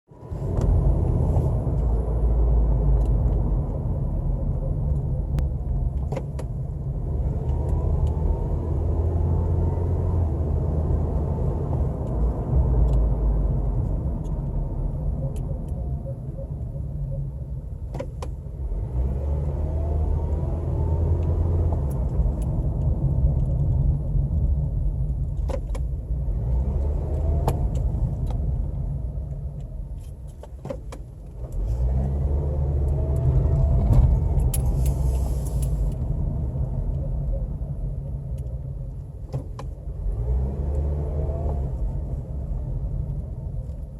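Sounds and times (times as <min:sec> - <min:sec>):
car low rumble: 0:00.0 - 0:43.9.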